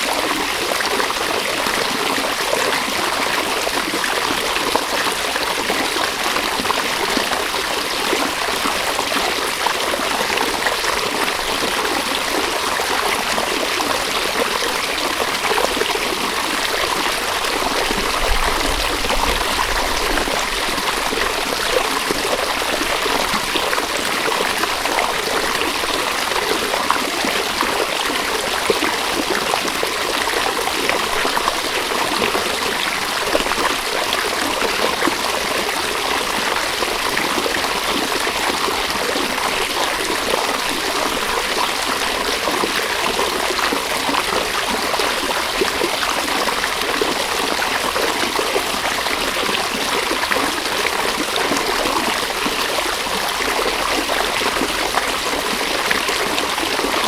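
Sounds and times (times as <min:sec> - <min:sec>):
river water rushing over stones: 0:00.0 - 0:45.7.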